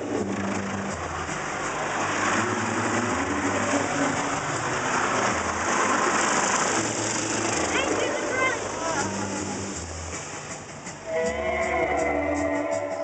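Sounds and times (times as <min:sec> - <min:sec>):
car wash water spraying: 0:00.0 - 0:11.1.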